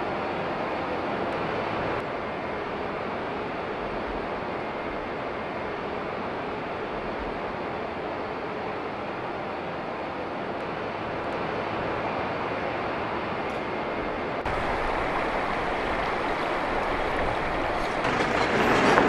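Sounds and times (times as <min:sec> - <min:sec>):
steady rushing noise: 0:00.0 - 0:19.0
truck engine and tyres on road: 0:00.0 - 0:19.0.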